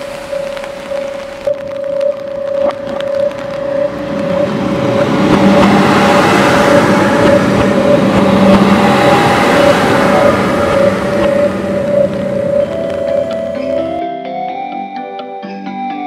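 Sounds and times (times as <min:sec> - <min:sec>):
diesel railcar passing: 0:00.0 - 0:14.2
pulsing high tone: 0:00.0 - 0:14.3.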